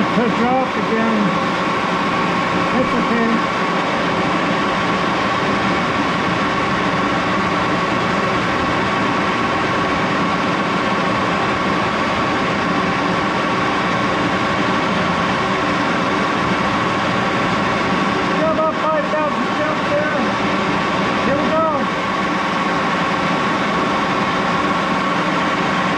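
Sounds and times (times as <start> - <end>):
lathe running: 0.0 - 25.9.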